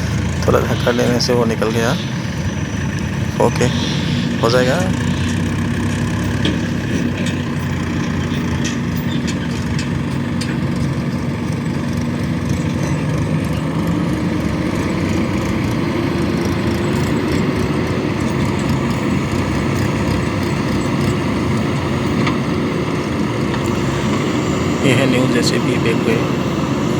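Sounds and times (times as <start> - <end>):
heavy diesel engines running: 0.0 - 26.9.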